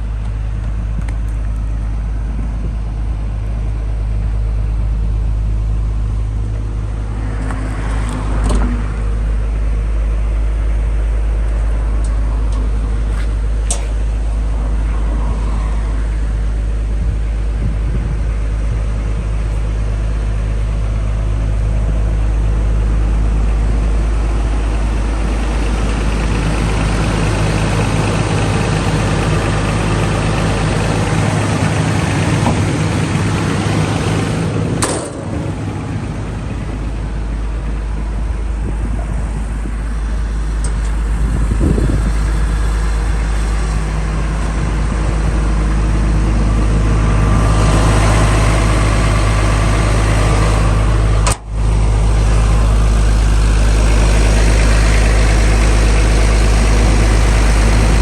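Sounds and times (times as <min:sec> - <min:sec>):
excavator diesel engine idling: 0:00.0 - 0:58.0.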